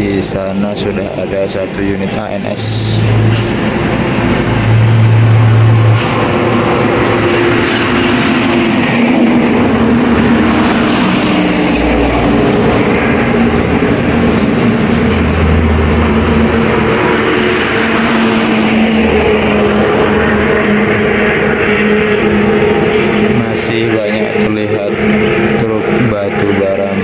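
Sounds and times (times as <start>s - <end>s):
heavy diesel traffic passing: 0.0s - 27.0s
loud low steady tone: 0.0s - 27.0s.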